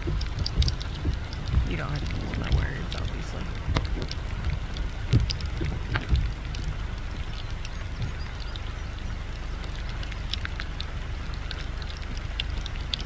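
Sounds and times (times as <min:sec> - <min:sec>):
rain drops ticking: 0:00.0 - 0:13.0
steady low rumble: 0:00.0 - 0:13.0.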